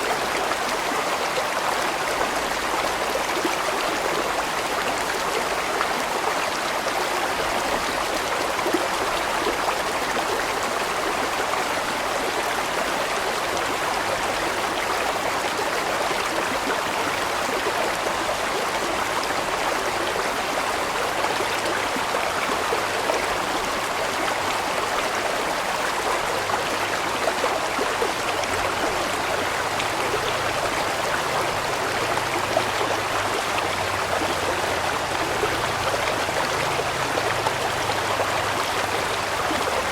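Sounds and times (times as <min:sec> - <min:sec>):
stream of water flowing: 0:00.0 - 0:39.9.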